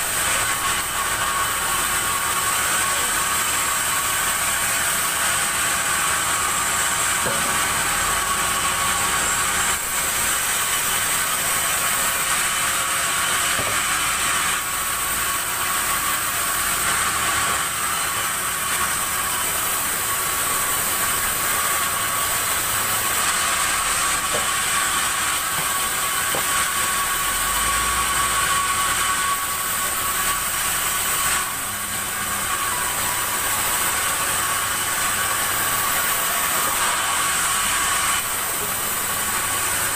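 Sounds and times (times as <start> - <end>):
circular saw whining: 0.0 - 39.9.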